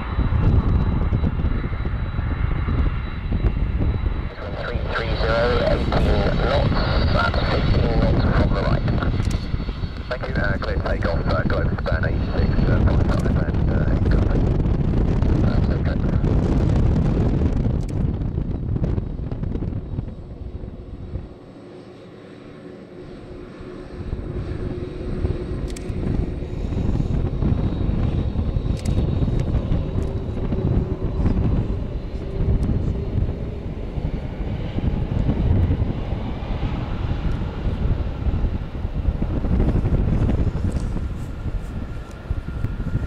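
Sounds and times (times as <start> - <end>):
jet engines at takeoff: 0.0 - 43.0.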